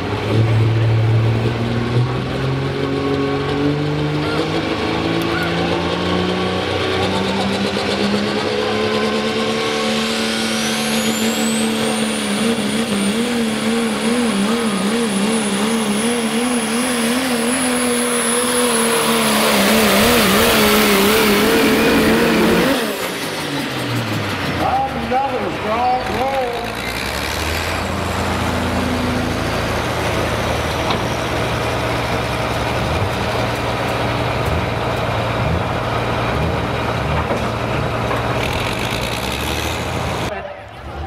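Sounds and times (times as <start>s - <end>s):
diesel truck engine under load: 0.0s - 41.0s
high turbo whine: 0.0s - 41.0s.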